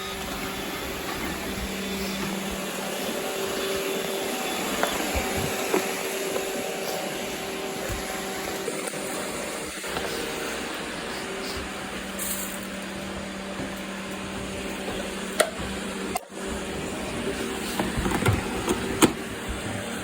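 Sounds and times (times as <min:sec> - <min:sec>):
robot vacuum cleaner running: 0:00.0 - 0:20.0.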